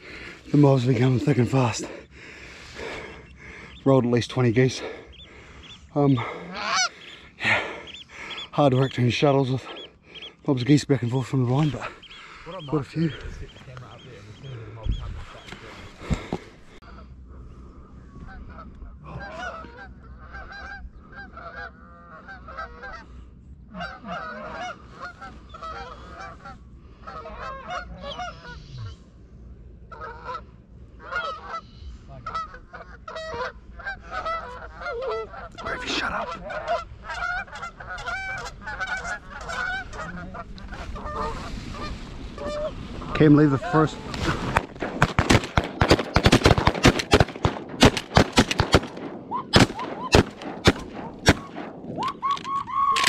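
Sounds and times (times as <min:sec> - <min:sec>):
geese honking: 0:00.0 - 0:29.1, 0:29.8 - 0:53.0.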